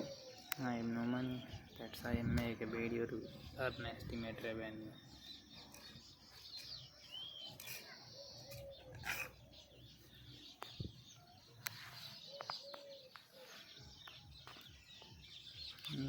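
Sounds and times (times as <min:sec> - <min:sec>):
high bird chirp: 0:00.0 - 0:16.0
low short bird calls: 0:00.0 - 0:16.0.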